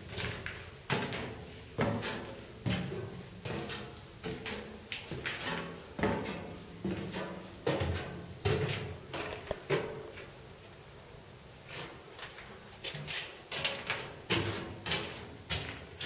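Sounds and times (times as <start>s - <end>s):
footsteps climbing echoing stairs: 0.0s - 10.4s, 11.9s - 16.0s.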